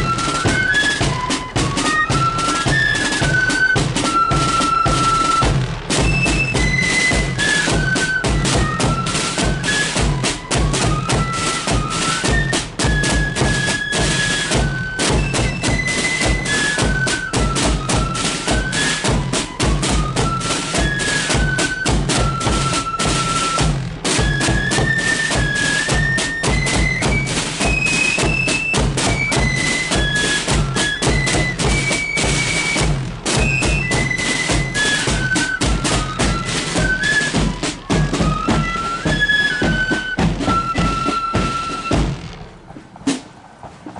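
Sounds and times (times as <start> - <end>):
flutes playing melody: 0.0 - 42.4
rapid snare drumming: 0.0 - 43.9.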